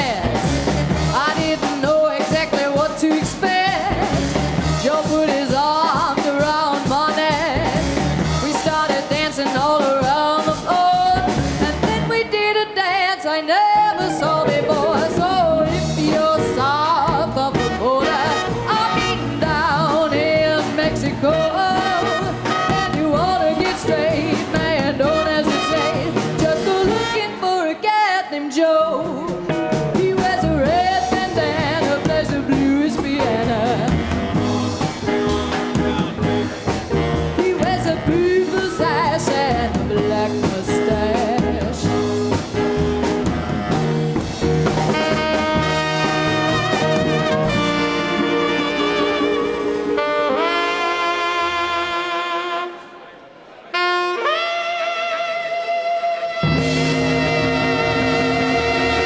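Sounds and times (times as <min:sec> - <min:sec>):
swing band playing: 0:00.0 - 0:59.0.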